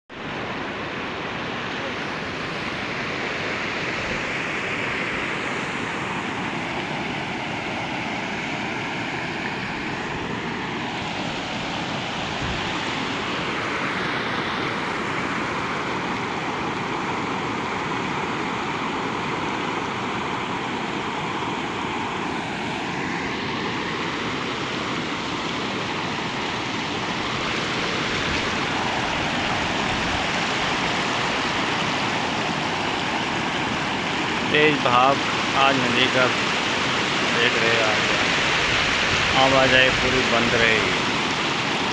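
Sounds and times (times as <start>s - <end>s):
river water rushing: 0.1s - 41.9s.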